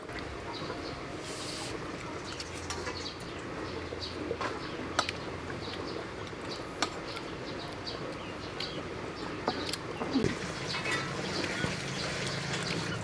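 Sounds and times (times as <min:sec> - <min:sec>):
small birds chirping: 0:00.5 - 0:13.0.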